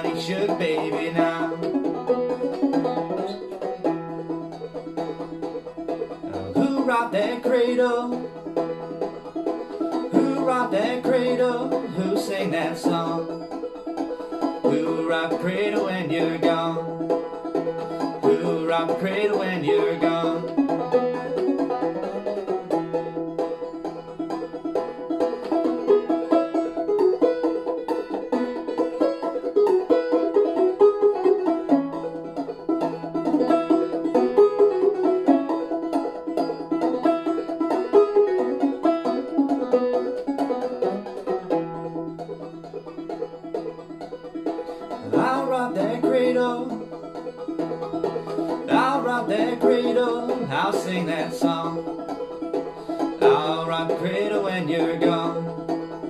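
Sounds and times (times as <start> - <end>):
banjo playing: 0.0 - 56.0.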